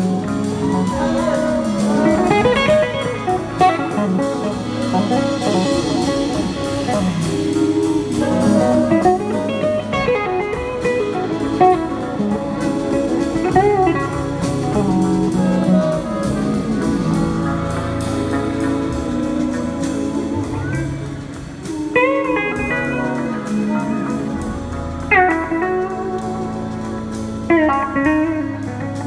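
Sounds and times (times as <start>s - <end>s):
blues-rock band playing: 0.0s - 29.0s
electric guitar bending notes: 0.0s - 29.0s.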